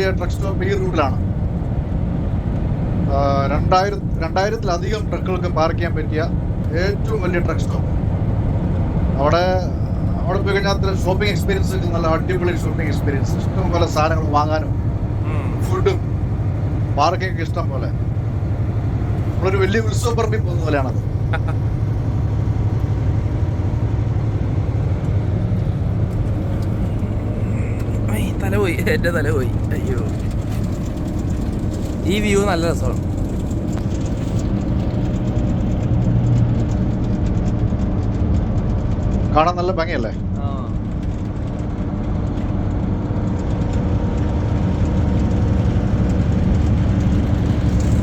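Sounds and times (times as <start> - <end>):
road noise: 0.0 - 48.0
truck engine drone: 0.0 - 48.0.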